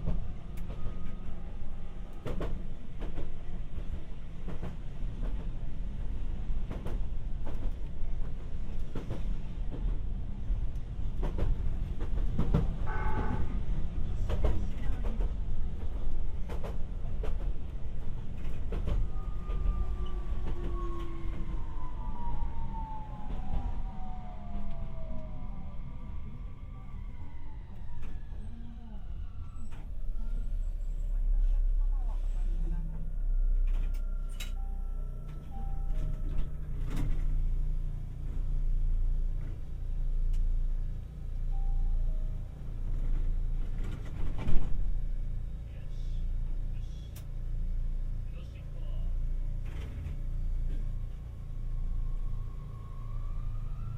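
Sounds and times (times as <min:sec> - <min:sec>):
rail car wheels and motors rumbling: 0:00.0 - 0:53.9.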